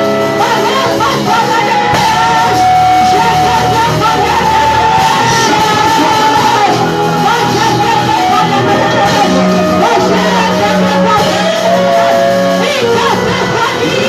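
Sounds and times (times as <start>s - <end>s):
band with sustained bass: 0.0s - 14.0s
voices singing held notes: 0.0s - 14.0s.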